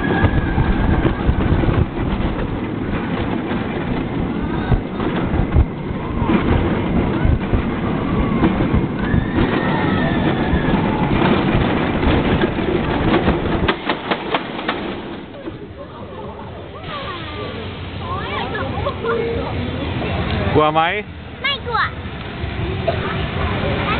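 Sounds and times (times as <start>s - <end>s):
roller coaster rumbling on track: 0.0s - 23.9s.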